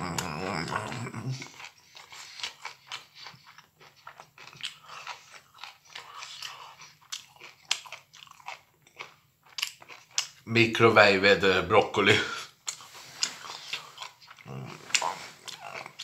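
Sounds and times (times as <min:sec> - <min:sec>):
person chewing crunchy food: 0:00.0 - 0:10.4, 0:12.4 - 0:16.0.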